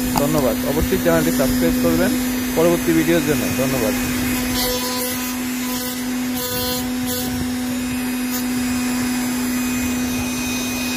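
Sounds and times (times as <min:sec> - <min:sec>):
electric motor fan humming: 0:00.0 - 0:10.9.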